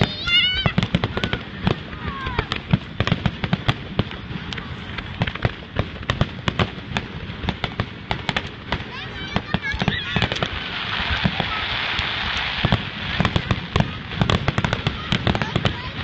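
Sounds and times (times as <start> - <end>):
fireworks bangs and crackling pops: 0.0 - 16.0.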